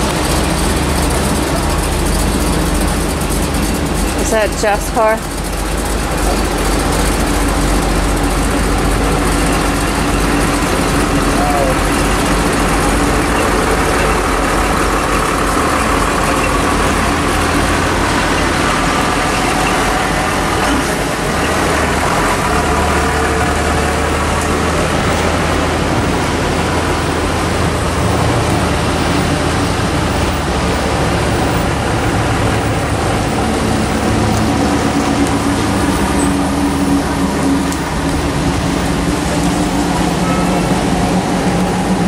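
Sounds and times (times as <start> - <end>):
car engine idling: 0.0 - 42.0
wind: 0.0 - 42.0.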